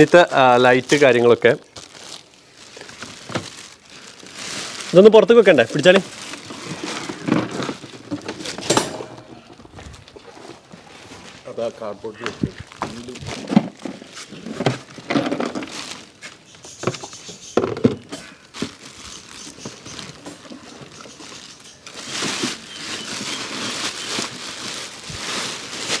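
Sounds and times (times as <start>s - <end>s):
plastic wrapping crinkling: 0.0s - 8.6s, 12.1s - 17.2s, 18.2s - 26.0s.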